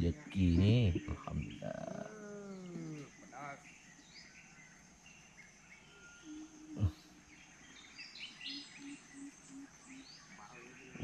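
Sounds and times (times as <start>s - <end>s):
bird chirps: 0.0s - 11.0s
high insect whine: 0.0s - 11.0s.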